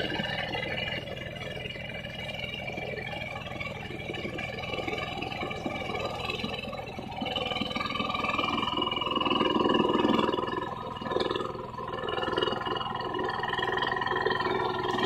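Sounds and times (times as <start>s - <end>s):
hand tractor engine running: 0.0s - 15.0s.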